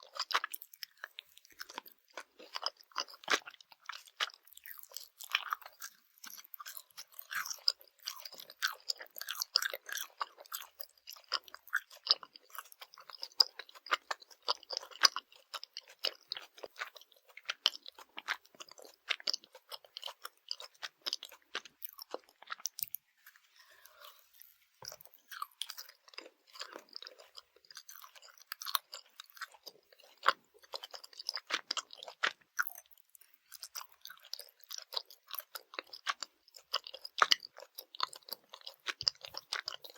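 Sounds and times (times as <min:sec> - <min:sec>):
chewing jelly candy: 0:00.0 - 0:39.9.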